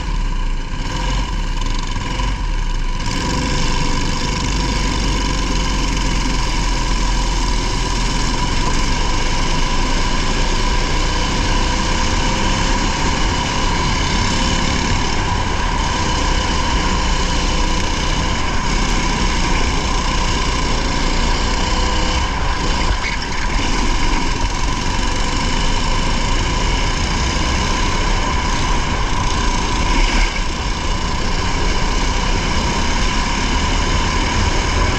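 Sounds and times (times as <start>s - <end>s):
race car engine running: 0.0s - 34.9s.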